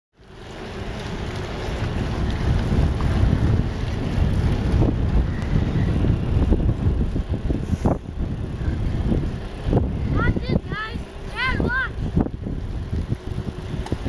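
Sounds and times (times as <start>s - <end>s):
wind buffeting microphone: 0.3s - 14.0s.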